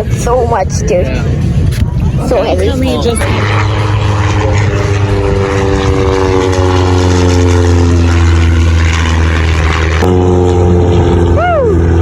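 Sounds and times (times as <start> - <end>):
propeller aircraft engine: 0.0 - 12.0
strong low hum: 0.0 - 12.0.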